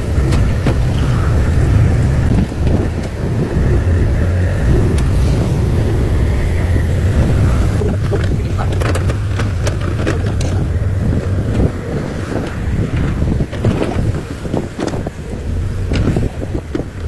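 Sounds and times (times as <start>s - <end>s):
sharp clicks and knocks: 0.0s - 15.1s
diesel engine under load: 0.0s - 17.0s.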